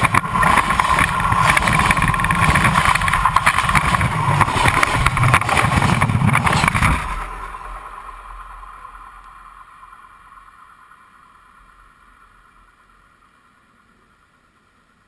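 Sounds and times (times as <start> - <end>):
steam train rumble through rails: 0.0 - 15.0.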